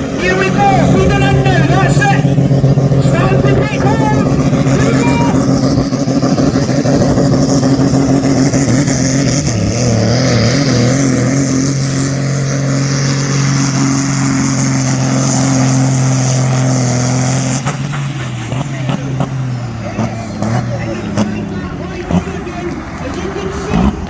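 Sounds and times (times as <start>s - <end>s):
tractor engine at high revs: 0.0s - 24.0s.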